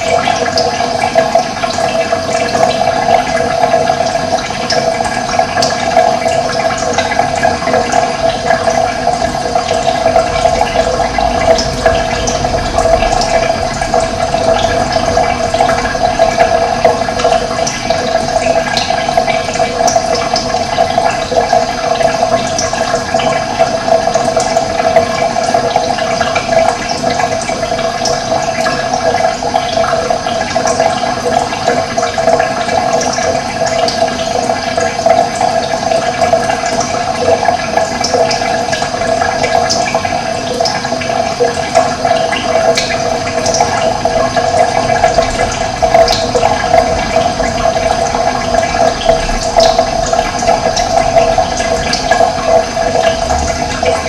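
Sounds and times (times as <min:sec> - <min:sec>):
running water flowing: 0:00.0 - 0:54.0.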